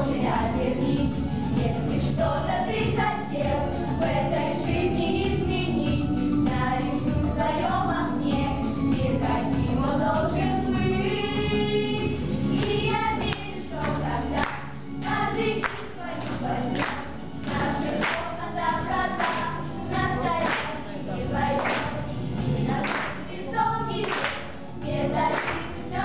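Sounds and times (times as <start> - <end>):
girls singing together: 0.0 - 26.0
recorded backing track: 0.0 - 26.0.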